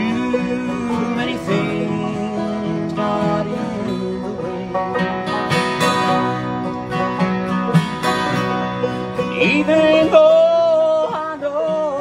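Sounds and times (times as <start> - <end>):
acoustic guitar strumming: 0.0 - 12.0
banjo picking: 0.0 - 12.0.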